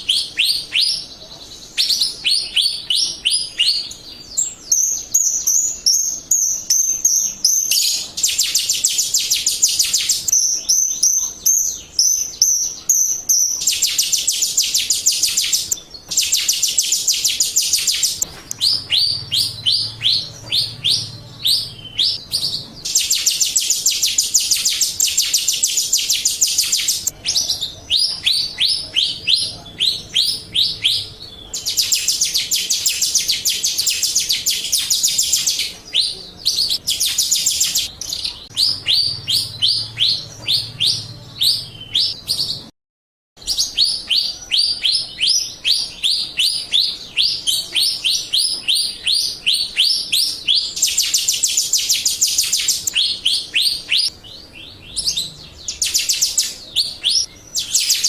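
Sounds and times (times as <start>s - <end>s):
bird song with rapid trills: 0.0s - 42.7s, 43.4s - 58.0s.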